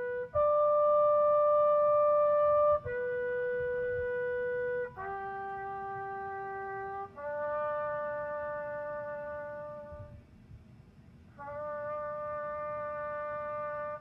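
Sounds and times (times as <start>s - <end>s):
bugle playing slow call: 0.0s - 14.0s.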